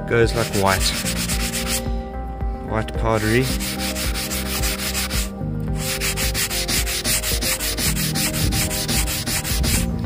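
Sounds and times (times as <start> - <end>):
sanding block rubbing wood: 0.3 - 1.8, 3.2 - 9.9.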